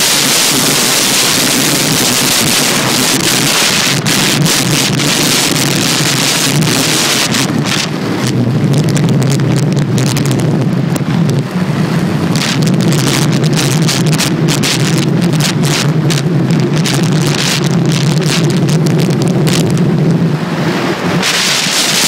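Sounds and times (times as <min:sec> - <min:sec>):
skate wheels rolling on asphalt: 0:00.0 - 0:22.0
wind buffeting microphone: 0:00.0 - 0:22.0.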